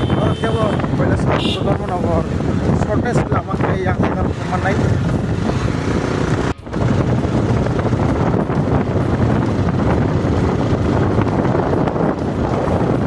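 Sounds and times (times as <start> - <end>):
moving vehicle rumble: 0.0 - 13.0
wind buffeting microphone: 0.0 - 13.0.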